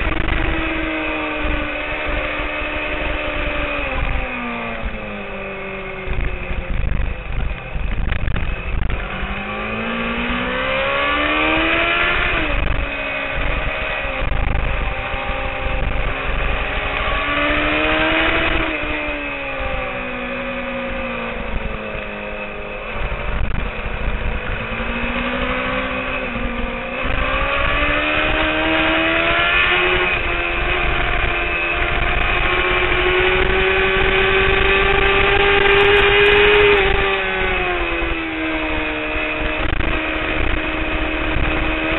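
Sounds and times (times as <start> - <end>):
motorcycle engine revving: 0.0 - 41.9
wind buffeting microphone: 0.0 - 41.9.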